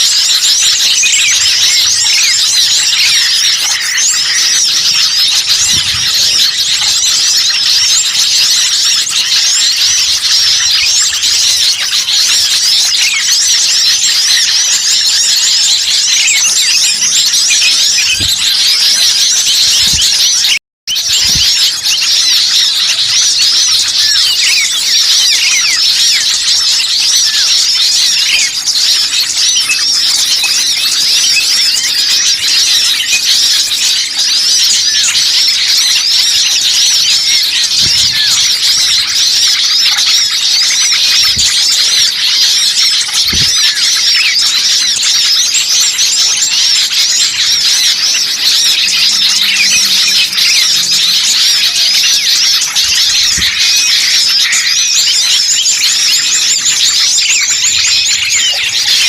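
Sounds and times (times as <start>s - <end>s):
songbirds chirping in chorus: 0.0s - 59.0s.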